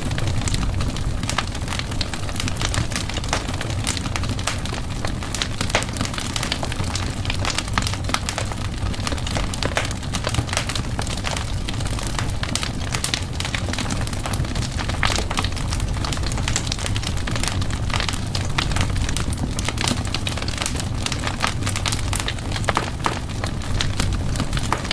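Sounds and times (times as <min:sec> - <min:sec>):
low rumble of flames: 0:00.0 - 0:24.9
wood fire crackling and popping: 0:00.0 - 0:24.9.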